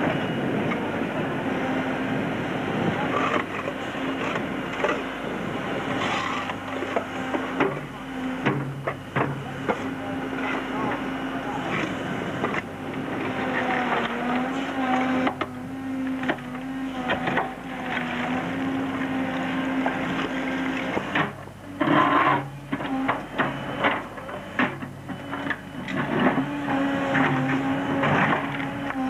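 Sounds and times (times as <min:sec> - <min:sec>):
backhoe engine whining: 0:00.0 - 0:29.0.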